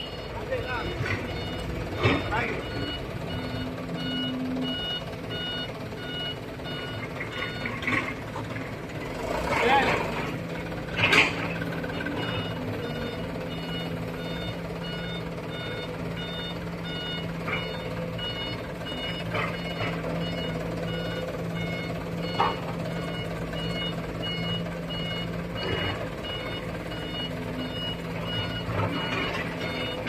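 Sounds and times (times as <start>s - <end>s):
diesel engine running: 0.0s - 30.0s
truck reversing alarm beeps: 0.0s - 30.0s.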